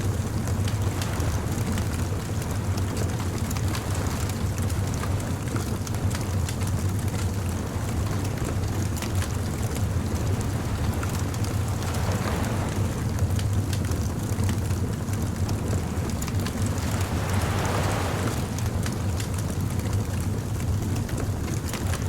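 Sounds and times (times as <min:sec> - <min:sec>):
low rumble of surf: 0:00.0 - 0:22.0
wood fire crackling: 0:00.1 - 0:21.9.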